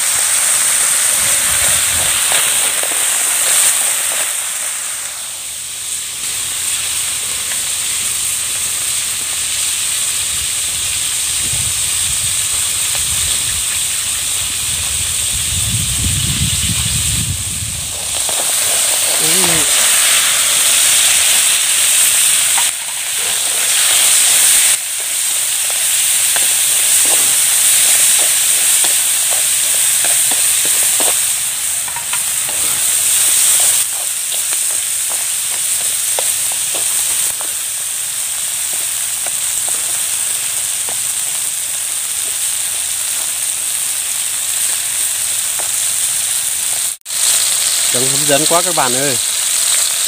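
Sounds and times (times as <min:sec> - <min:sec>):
food sizzling in a wok: 0:00.0 - 0:50.0.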